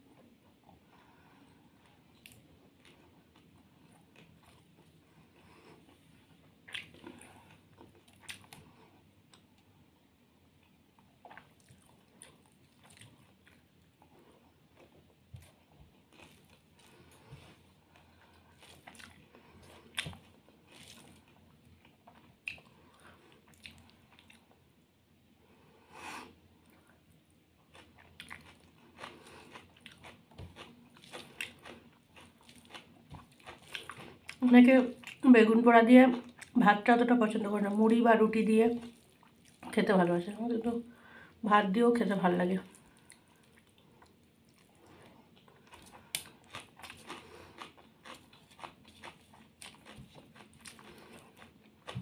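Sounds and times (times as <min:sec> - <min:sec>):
chewing and crunching fried fish: 0:00.0 - 0:09.8, 0:10.4 - 0:24.8, 0:26.6 - 0:36.6, 0:38.7 - 0:39.8, 0:42.6 - 0:52.0.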